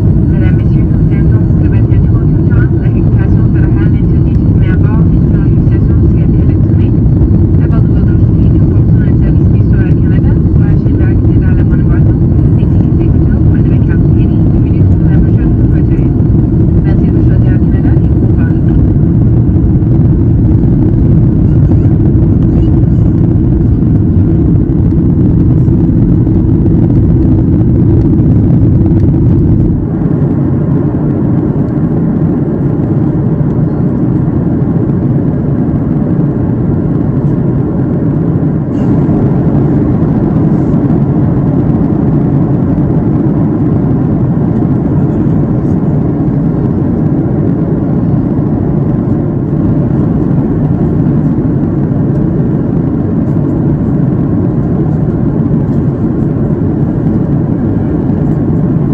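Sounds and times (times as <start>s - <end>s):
airplane cabin engine rumble: 0.0s - 58.9s.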